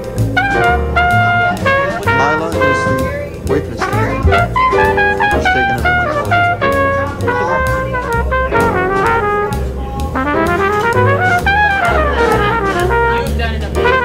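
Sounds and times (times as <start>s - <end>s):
jazz with brass melody: 0.0s - 14.0s.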